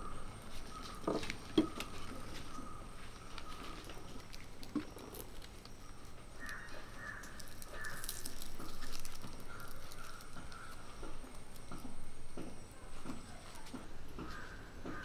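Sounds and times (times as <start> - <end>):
leaf crinkling and rustling: 0.4 - 14.5.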